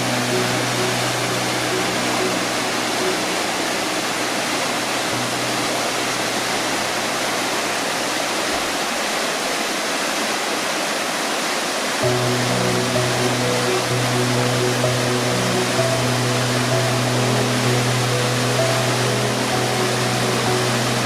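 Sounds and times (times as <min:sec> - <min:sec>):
low sustained music notes: 0:00.0 - 0:08.9, 0:12.0 - 0:21.0
waterfall roaring: 0:00.0 - 0:21.0.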